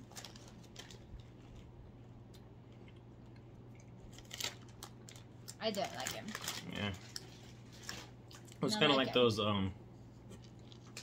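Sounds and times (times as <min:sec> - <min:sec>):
crackers being chewed: 0:00.0 - 0:08.7, 0:10.1 - 0:11.0
low steady hum: 0:00.0 - 0:11.0.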